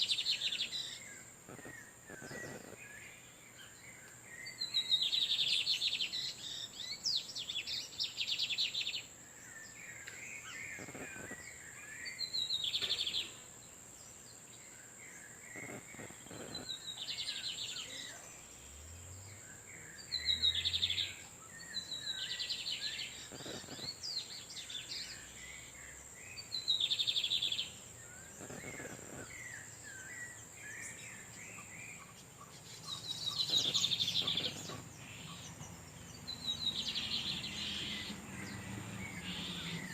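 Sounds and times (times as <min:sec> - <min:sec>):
birds buzzy trills: 0:00.0 - 0:39.9
soft bird twittering: 0:00.0 - 0:39.9.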